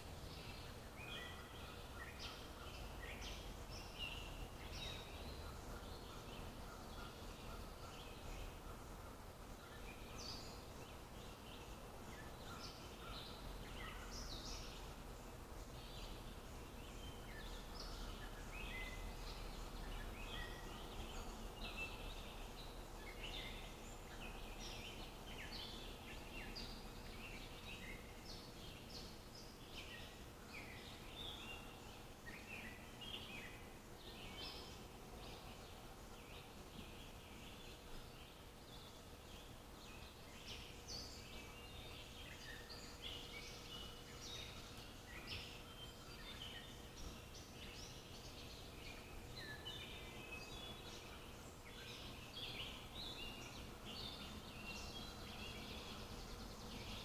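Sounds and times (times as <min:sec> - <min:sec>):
birds calling and chirping: 0:00.0 - 0:57.0
faint background noise: 0:00.0 - 0:57.0.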